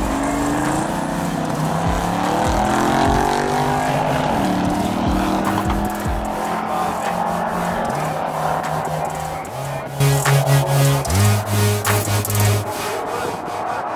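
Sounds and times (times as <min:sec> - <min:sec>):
racing car engines at full throttle: 0:00.0 - 0:13.9.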